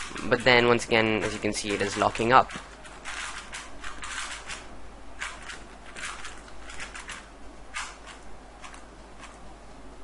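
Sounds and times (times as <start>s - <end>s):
puzzle cube clicking: 1.2s - 9.4s.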